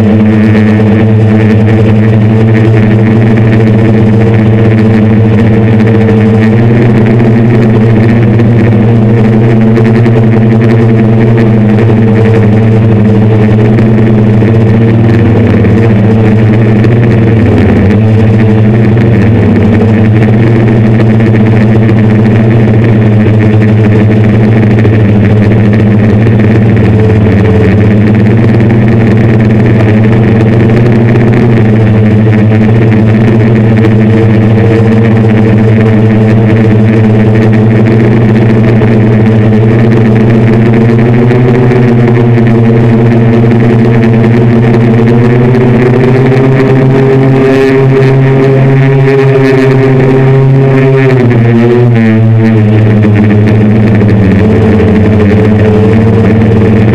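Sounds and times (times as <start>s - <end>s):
drone propellers droning: 0.0s - 56.9s.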